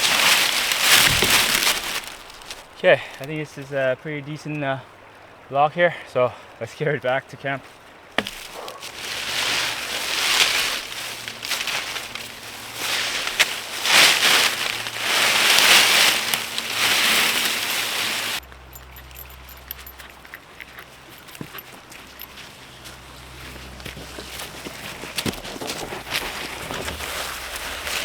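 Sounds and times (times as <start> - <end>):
dry leaves rustling and crunching: 0.0 - 3.7, 7.7 - 28.0.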